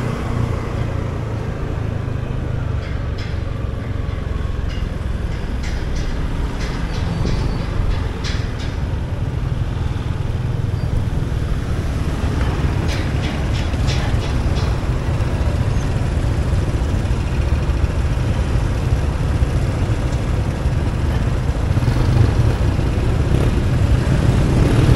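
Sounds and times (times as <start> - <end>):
motor scooter engine rumble: 0.0 - 24.9.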